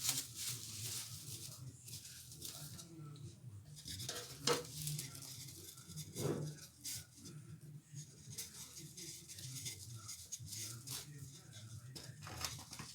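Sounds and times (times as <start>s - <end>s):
kitchen rustling: 0.0s - 3.0s, 3.7s - 12.9s.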